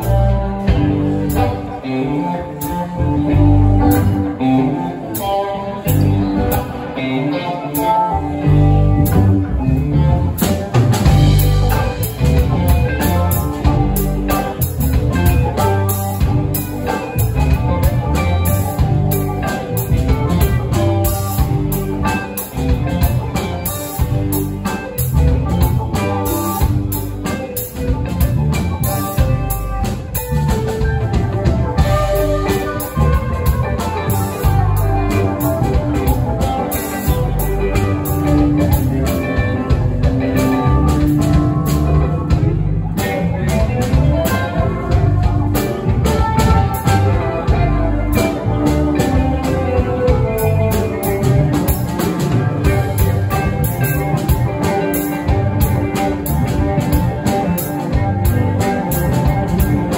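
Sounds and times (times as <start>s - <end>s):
electric guitars: 0.0s - 59.9s
stage keyboard: 0.0s - 59.9s
drum kit and cymbals: 7.8s - 59.9s.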